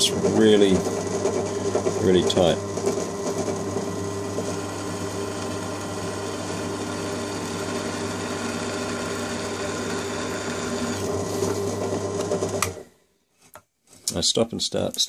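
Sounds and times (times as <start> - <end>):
drill bit cutting metal: 0.0 - 12.6
drill press motor hum: 0.0 - 12.8.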